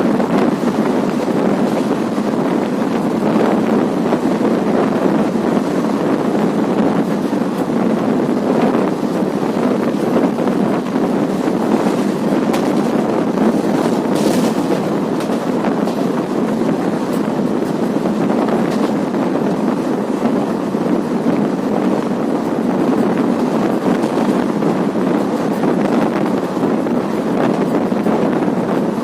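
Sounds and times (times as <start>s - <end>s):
train wheels rushing on rails: 0.0s - 29.0s
wind buffeting microphone: 0.0s - 29.0s.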